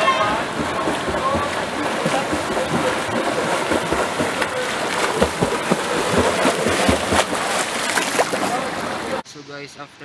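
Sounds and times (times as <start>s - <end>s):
water splashing from swimming: 0.0s - 9.2s.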